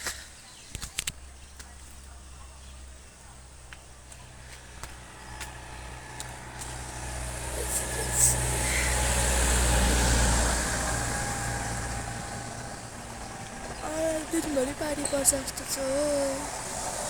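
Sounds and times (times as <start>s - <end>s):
motor vehicle passing: 2.7s - 17.0s.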